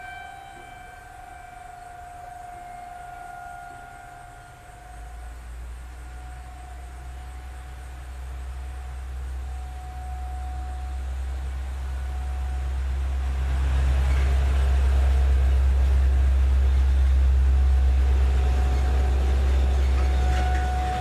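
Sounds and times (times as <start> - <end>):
distant warning siren: 0.0 - 21.0.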